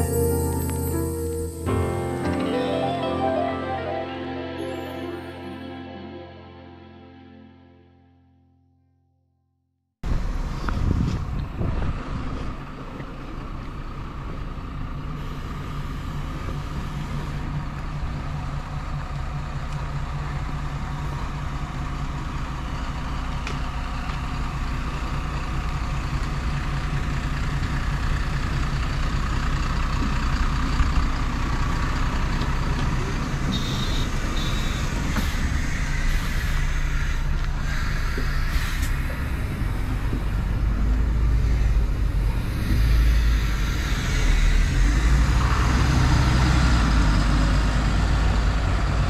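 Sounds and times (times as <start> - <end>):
bus engine humming: 0.0 - 7.9, 10.0 - 49.0.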